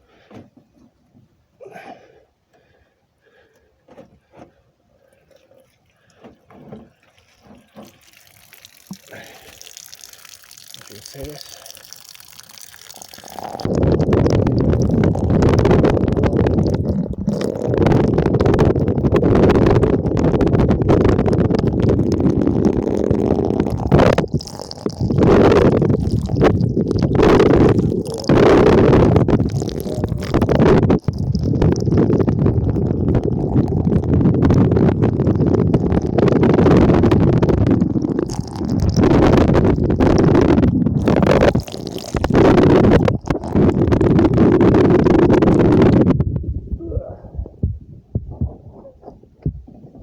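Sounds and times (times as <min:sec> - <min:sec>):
stream water rumbling and gurgling: 0:05.0 - 0:46.5.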